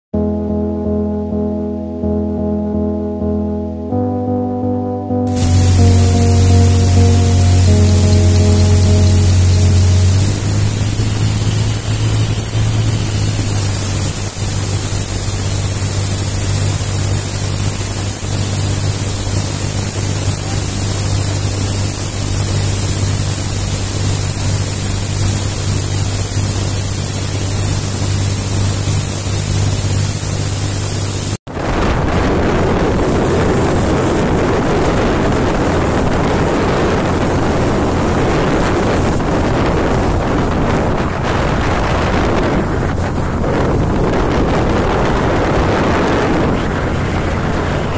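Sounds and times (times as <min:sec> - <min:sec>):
motorboat engine droning: 0:00.2 - 0:47.9
wind noise on microphone: 0:05.3 - 0:47.9.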